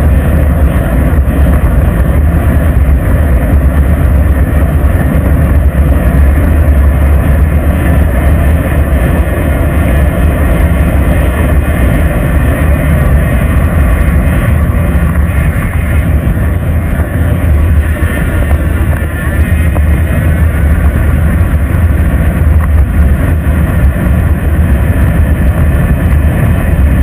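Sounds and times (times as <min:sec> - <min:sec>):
tyre road noise: 0:00.0 - 0:27.0
wind buffeting microphone: 0:00.0 - 0:27.0.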